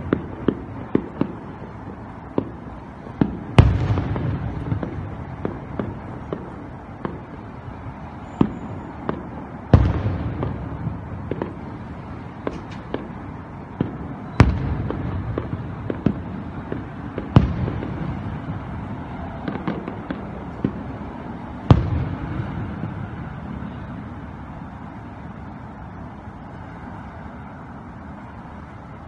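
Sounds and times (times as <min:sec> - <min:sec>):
fireworks bangs and pops: 0:00.0 - 0:25.6.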